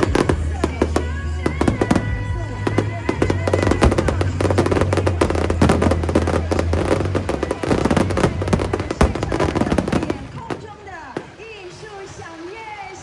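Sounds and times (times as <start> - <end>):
fireworks bangs and crackling: 0.0 - 12.7.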